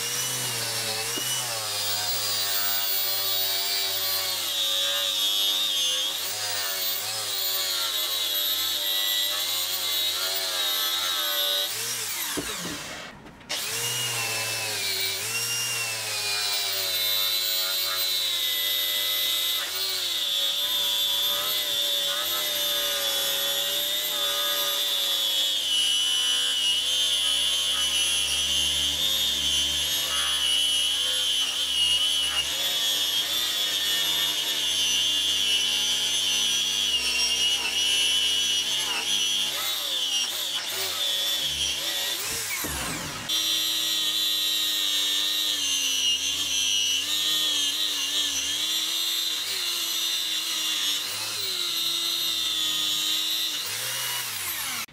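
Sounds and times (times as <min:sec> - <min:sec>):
angle grinder motor whine: 0:00.0 - 0:54.9.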